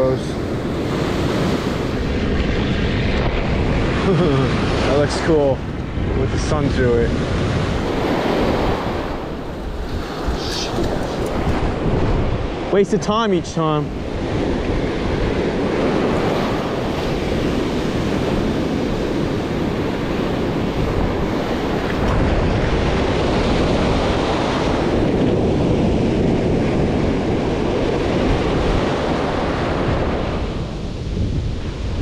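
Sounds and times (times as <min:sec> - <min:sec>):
surf breaking on beach: 0:00.0 - 0:32.0
wind rumbling on microphone: 0:00.0 - 0:32.0.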